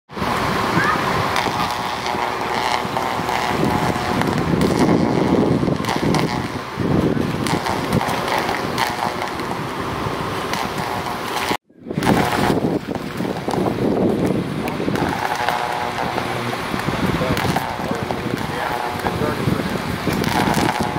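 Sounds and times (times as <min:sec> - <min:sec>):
wind buffeting microphone: 0:00.1 - 0:20.9.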